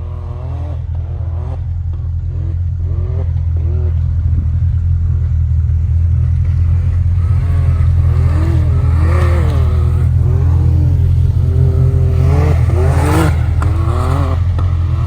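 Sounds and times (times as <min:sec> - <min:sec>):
engine low drone: 0:00.0 - 0:15.0.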